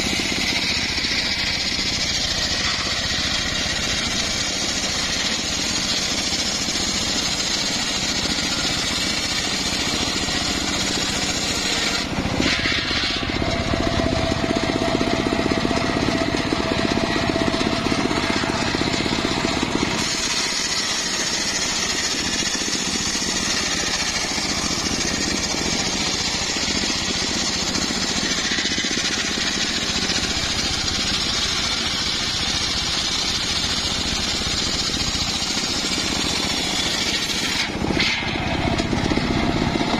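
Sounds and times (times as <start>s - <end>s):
circular saw ripping log: 0.0s - 39.9s.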